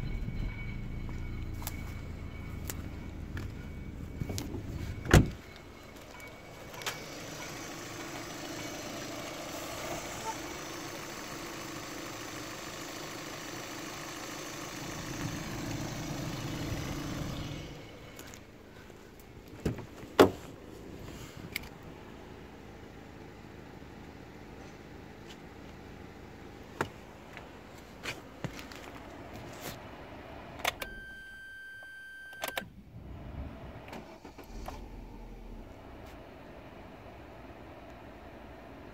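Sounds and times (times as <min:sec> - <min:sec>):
car engine idling: 0:00.0 - 0:30.8, 0:34.0 - 0:38.9.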